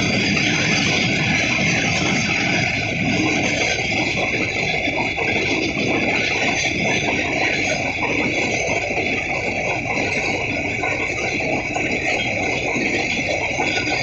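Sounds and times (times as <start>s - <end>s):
high-pitched whine: 0.0s - 14.0s
train wheels rumbling on track: 0.0s - 14.0s.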